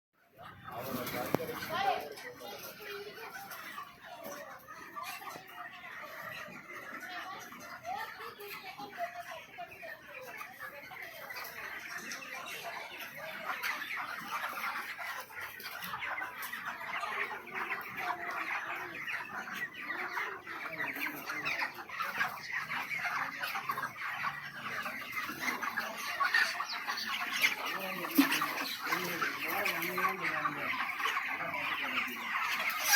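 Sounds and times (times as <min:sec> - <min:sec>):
chickens clucking: 0:00.2 - 0:32.9.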